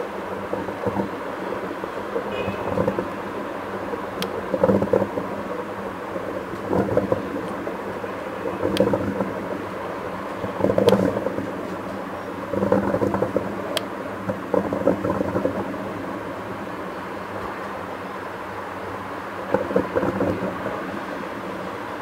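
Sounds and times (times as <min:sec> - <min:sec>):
distant fireworks booming: 0:00.4 - 0:17.7, 0:19.4 - 0:21.1.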